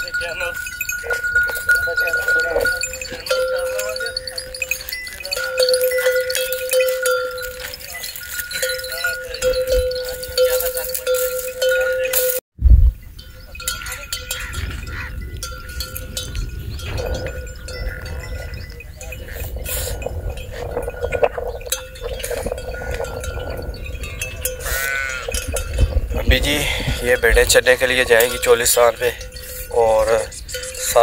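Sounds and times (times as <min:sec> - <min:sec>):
animal bells clinking: 0:00.0 - 0:12.4, 0:13.0 - 0:31.0.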